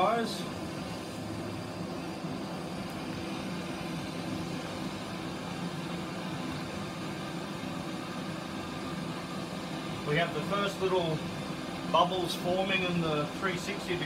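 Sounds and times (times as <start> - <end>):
gas stove burners hissing: 0.0 - 14.0.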